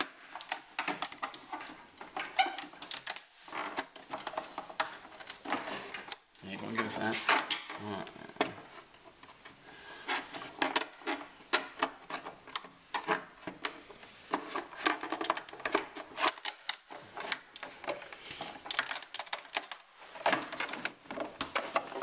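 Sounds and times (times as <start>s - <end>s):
tools prying and scraping plastic: 0.0s - 22.0s.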